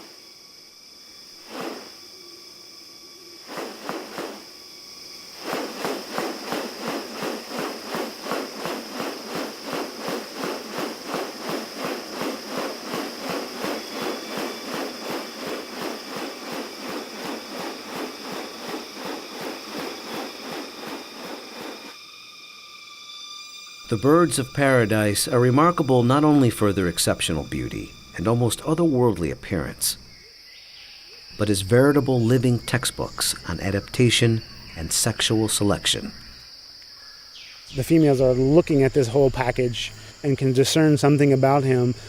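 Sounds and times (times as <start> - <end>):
insects droning high-pitched: 0.0 - 42.0.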